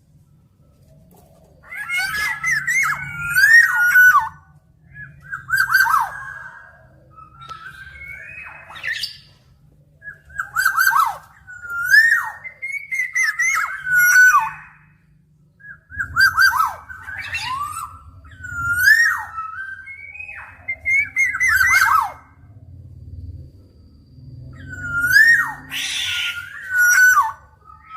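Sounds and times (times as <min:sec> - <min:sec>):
bird singing whistled phrases: 0:01.6 - 0:09.4, 0:10.0 - 0:15.0, 0:15.6 - 0:22.4, 0:24.4 - 0:27.9.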